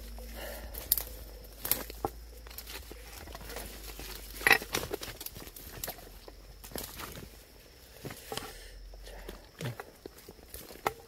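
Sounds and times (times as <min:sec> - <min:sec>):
twigs crackling and snapping: 0:00.0 - 0:08.5, 0:09.2 - 0:11.0.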